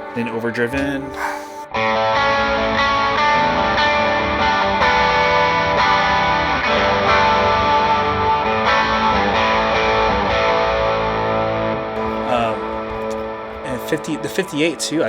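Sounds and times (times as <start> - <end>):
overdriven electric guitar chords: 0.0 - 15.0.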